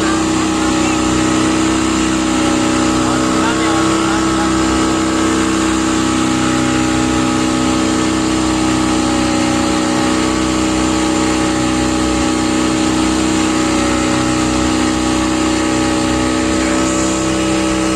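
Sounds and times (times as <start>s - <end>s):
speedboat engine running: 0.0s - 17.9s.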